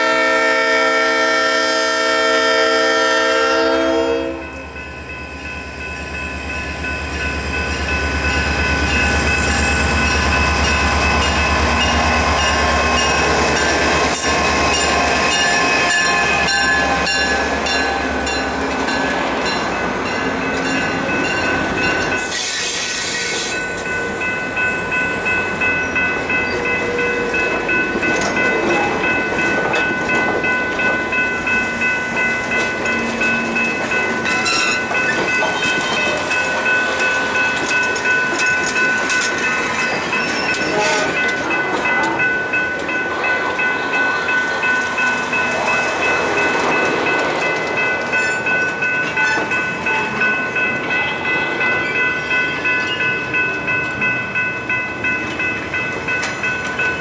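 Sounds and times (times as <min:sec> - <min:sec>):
crossing bell ringing: 0:00.0 - 0:57.0
diesel locomotive rumbling past: 0:00.0 - 0:57.0
train wheels clattering: 0:07.9 - 0:54.2.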